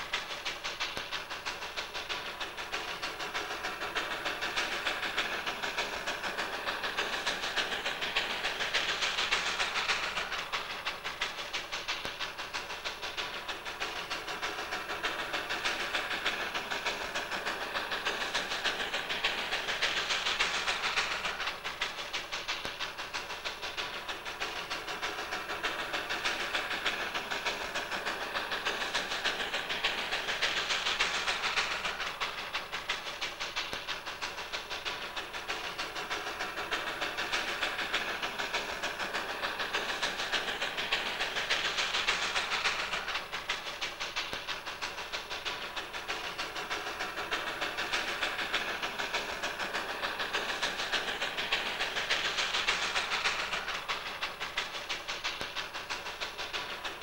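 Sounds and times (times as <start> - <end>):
steam train running: 0.0 - 57.0.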